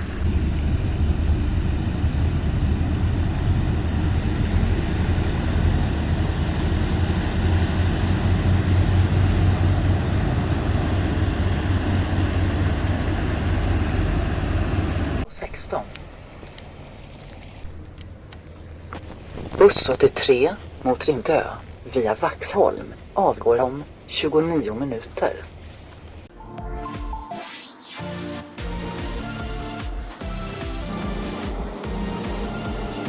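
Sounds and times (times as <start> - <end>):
vehicle engine rumble: 0.0 - 23.2, 28.5 - 33.0.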